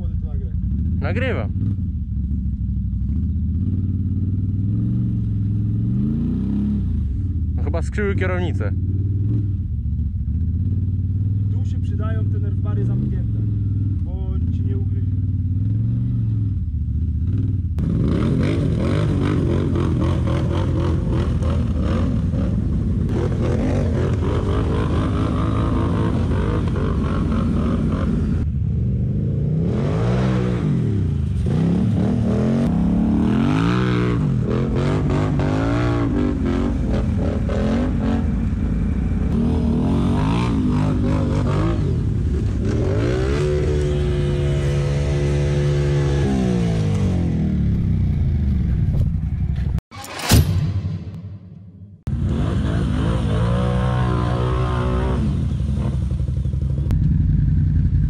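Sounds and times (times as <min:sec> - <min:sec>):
quad bike engines revving: 0:00.0 - 0:49.8, 0:52.1 - 0:58.0.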